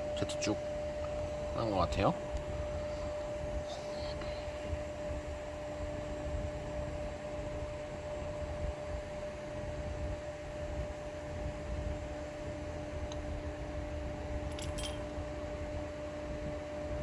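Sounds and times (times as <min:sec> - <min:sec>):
fan-like hiss: 0:00.0 - 0:17.0.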